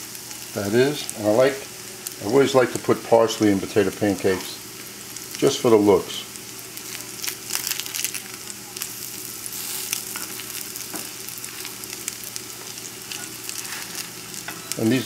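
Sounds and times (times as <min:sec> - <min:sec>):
pancakes sizzling in oil: 0:00.0 - 0:15.0.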